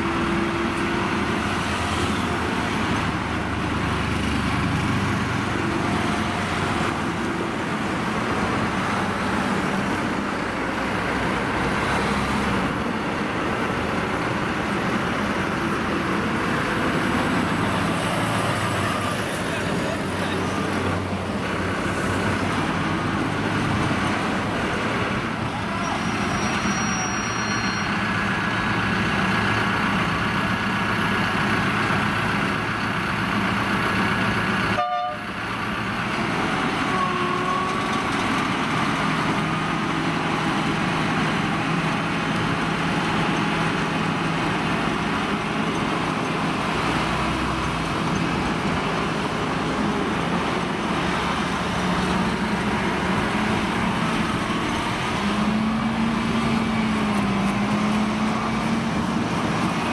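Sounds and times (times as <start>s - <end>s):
diesel engine running: 0.0s - 59.9s
truck engine: 0.0s - 59.9s.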